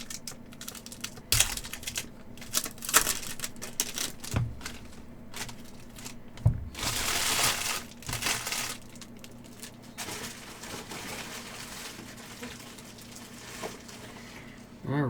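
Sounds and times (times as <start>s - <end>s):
wrapper crinkling and tearing: 0.0s - 14.3s.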